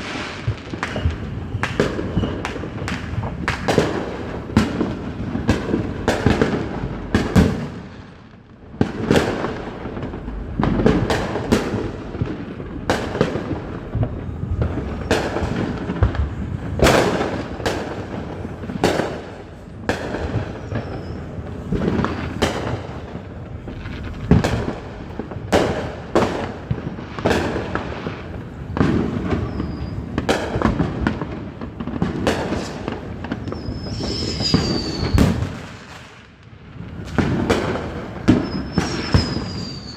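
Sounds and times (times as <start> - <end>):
firework whistles: 0.0 - 8.1, 10.7 - 26.6, 28.8 - 30.6, 32.2 - 36.2, 37.1 - 39.9
fireworks bangs and crackling: 0.0 - 39.9.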